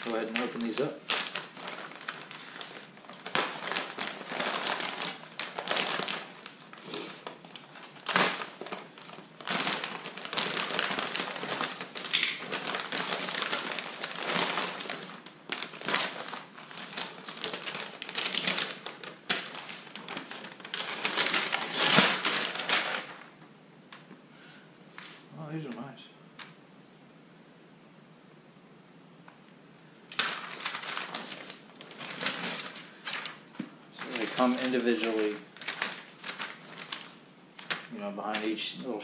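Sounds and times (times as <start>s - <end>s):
stiff paper sheet rustling: 0.0s - 23.3s, 30.1s - 39.0s
plastic bags crinkling: 0.0s - 23.4s, 30.1s - 39.0s.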